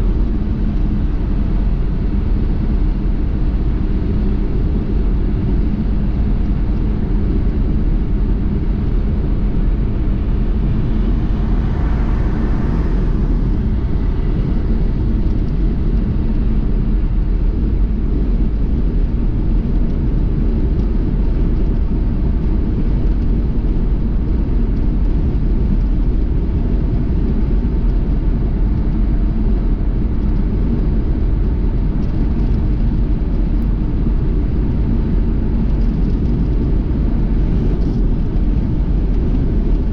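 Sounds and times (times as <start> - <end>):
car rumbling on road: 0.0 - 39.9.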